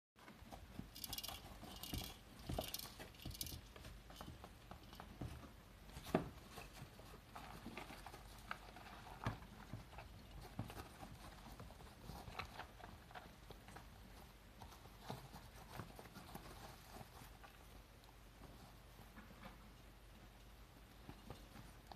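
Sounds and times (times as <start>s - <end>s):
hamsters rustling in wood shavings: 0.2s - 19.6s.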